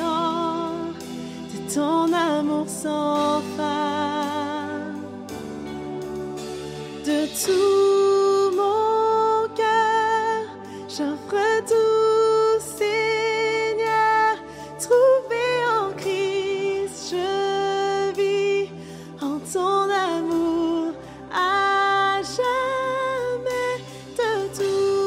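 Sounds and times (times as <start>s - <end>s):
person singing with vibrato: 0.0s - 5.3s, 7.0s - 25.0s.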